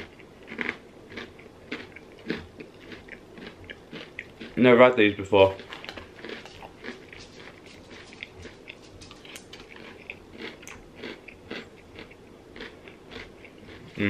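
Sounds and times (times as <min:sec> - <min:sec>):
person chewing crunchy cereal: 0:00.0 - 0:04.8, 0:05.4 - 0:14.0.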